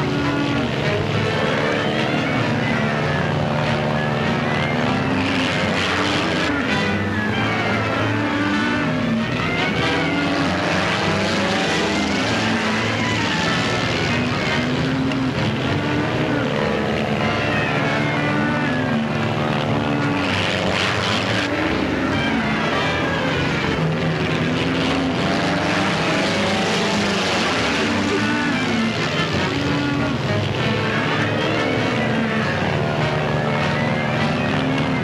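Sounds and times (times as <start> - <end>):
cattle bellowing: 0.0 - 35.0.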